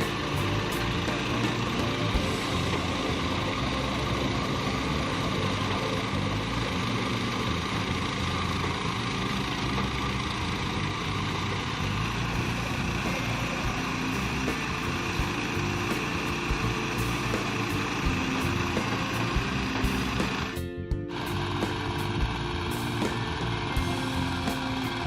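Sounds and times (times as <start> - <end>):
small engine running steadily: 0.0 - 25.0.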